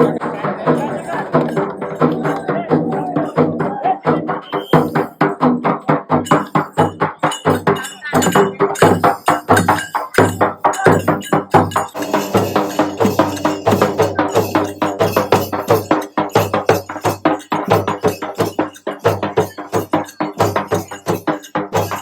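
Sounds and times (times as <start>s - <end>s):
music with fast percussive beat: 0.0s - 22.0s.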